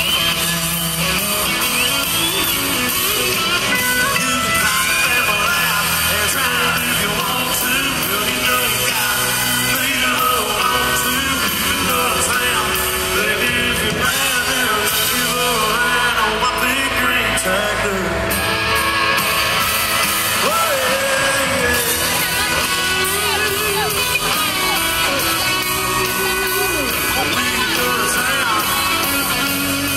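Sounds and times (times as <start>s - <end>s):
crowd noise: 0.0s - 29.9s
live country band with guitar: 0.0s - 29.9s
man singing: 1.3s - 29.9s.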